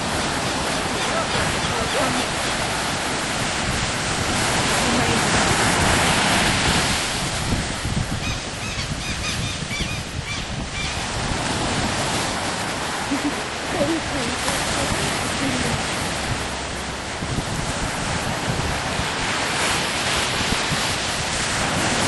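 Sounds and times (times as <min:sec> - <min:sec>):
wind and surf rushing: 0:00.0 - 0:22.0.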